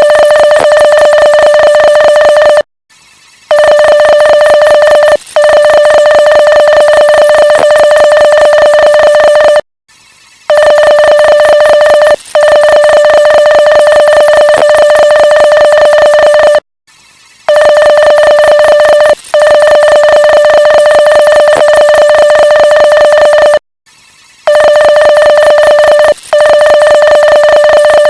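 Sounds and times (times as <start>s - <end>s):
morse code beeping: 0.0s - 2.6s, 3.5s - 9.6s, 10.5s - 16.6s, 17.5s - 23.6s, 24.5s - 28.0s.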